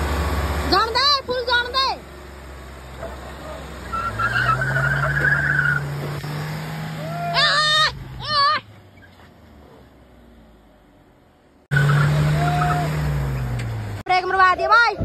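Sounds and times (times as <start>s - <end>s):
diesel engine pulling away: 0.0s - 14.1s.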